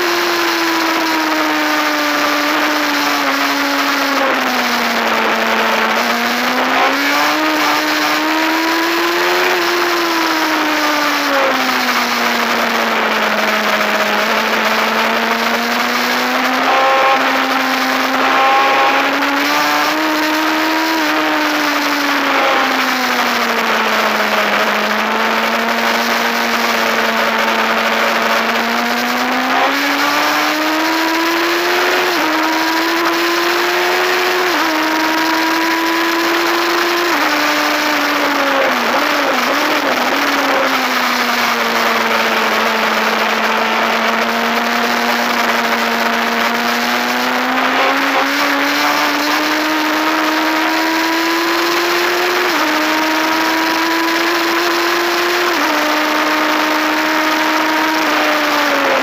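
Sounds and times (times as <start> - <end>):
racing motorcycle engine: 0.0 - 59.0.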